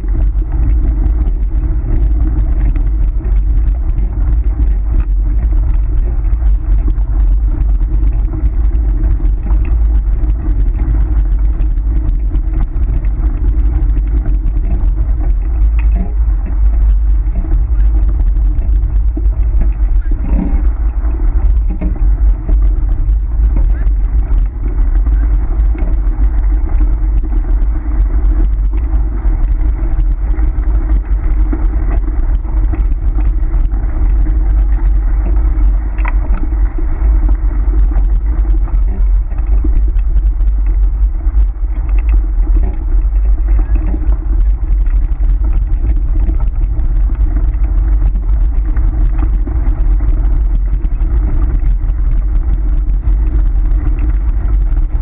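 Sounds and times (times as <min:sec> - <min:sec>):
wheels rumbling on gravel: 0:00.0 - 0:55.0.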